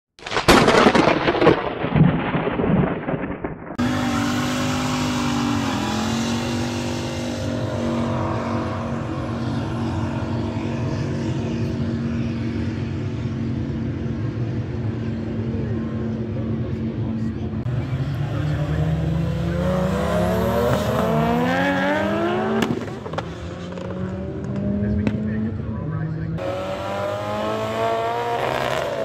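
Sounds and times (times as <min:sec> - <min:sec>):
truck engine at high revs: 0:03.8 - 0:29.0.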